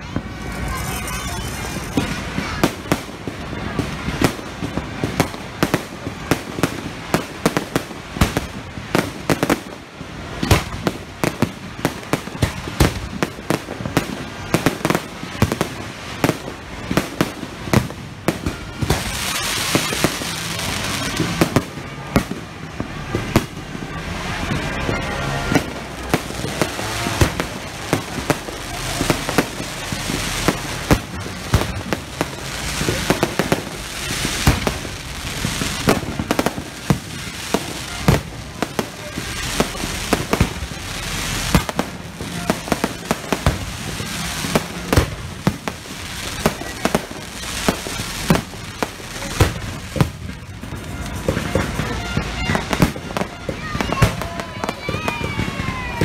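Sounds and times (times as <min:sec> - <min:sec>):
fireworks banging and popping: 0:00.0 - 0:56.0.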